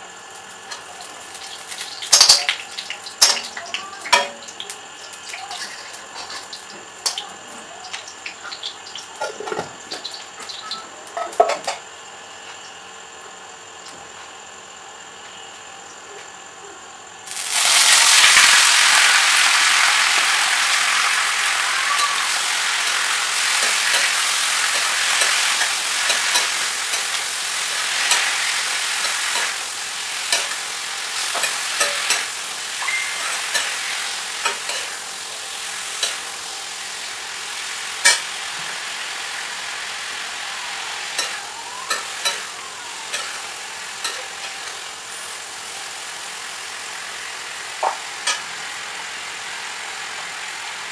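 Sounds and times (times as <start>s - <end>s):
vegetables sizzling in hot oil: 0.0s - 13.8s, 17.3s - 50.9s.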